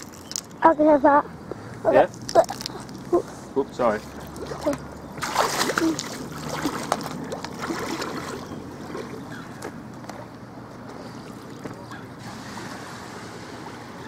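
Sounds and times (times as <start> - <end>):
water sloshing from wading: 2.1 - 14.0.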